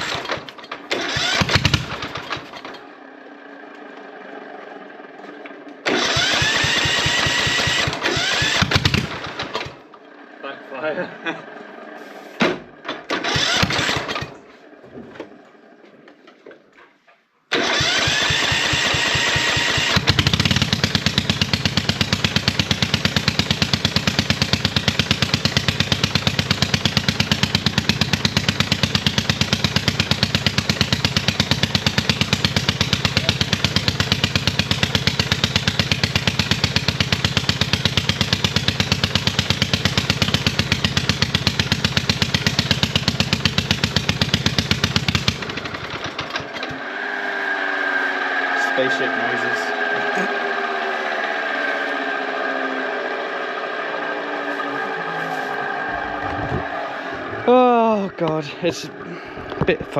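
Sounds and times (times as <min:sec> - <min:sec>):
starter motor whine: 0:00.0 - 0:12.0, 0:12.6 - 0:16.6, 0:17.5 - 0:59.9
lawn mower engine running: 0:00.0 - 0:59.9.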